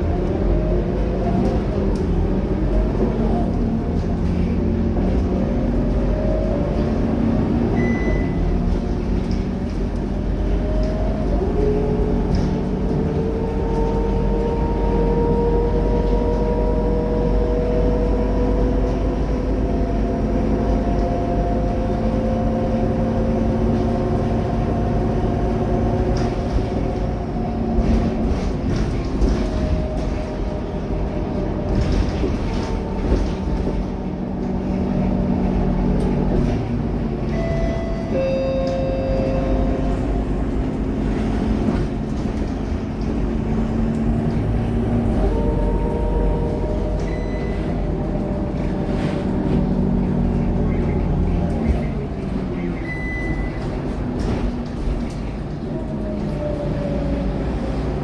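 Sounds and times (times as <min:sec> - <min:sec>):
bus diesel engine whine: 0:00.0 - 0:58.0.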